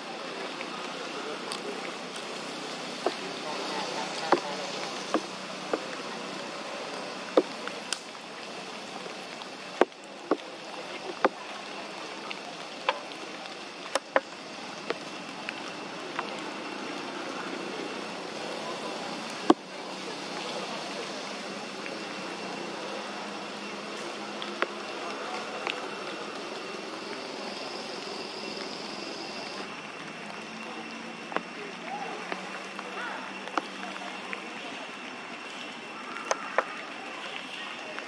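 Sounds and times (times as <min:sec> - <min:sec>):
steady forest hiss: 0:00.0 - 0:38.0.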